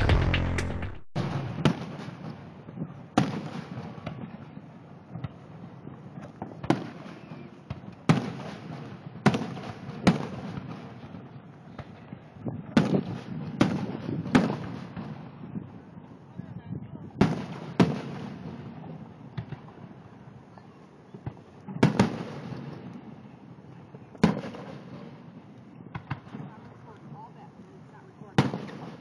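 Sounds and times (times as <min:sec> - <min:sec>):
fireworks bursting: 0:00.0 - 0:16.0, 0:17.0 - 0:29.0.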